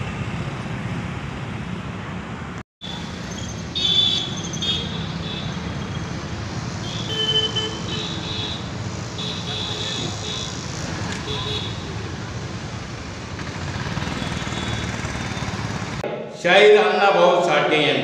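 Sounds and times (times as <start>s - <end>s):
road traffic rumble: 0.0s - 16.4s.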